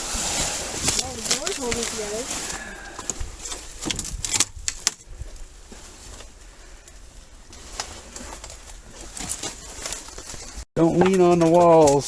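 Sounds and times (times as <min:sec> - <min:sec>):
footsteps through brush: 0:00.0 - 0:12.0.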